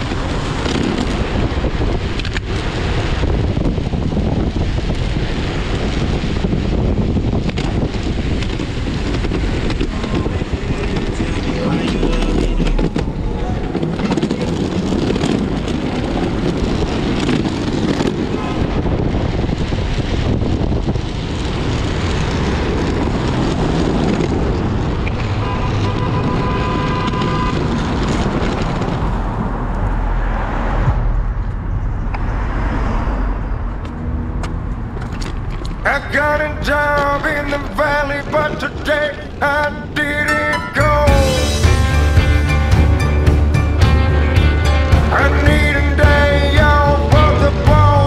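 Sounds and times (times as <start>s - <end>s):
skateboard wheels rumbling on road: 0.0s - 48.0s
traffic passing: 0.0s - 48.0s.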